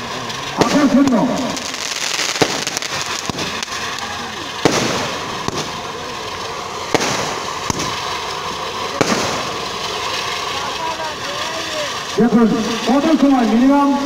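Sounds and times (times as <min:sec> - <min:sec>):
firework cracks: 0:00.0 - 0:14.0
firework spraying sparks hiss: 0:00.0 - 0:14.0.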